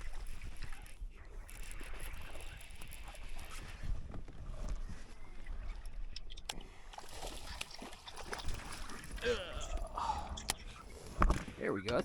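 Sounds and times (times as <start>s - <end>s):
water sloshing around kayak: 0.0s - 11.6s.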